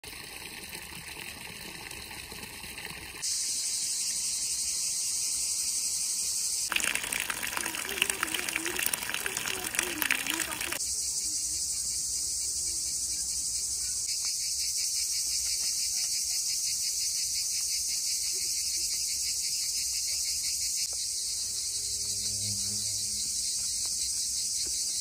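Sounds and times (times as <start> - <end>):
insects chirring: 3.2 - 25.0.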